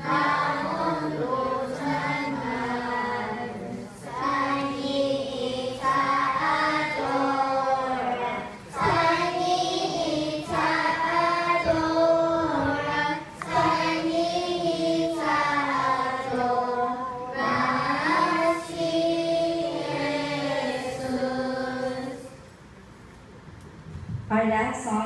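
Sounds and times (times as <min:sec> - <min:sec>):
children's choir singing: 0:00.0 - 0:22.5.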